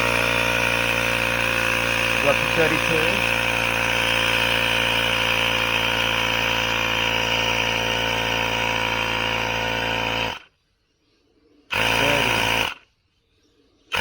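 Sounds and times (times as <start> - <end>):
air compressor buzzing hiss: 0.0 - 10.4, 11.7 - 12.8.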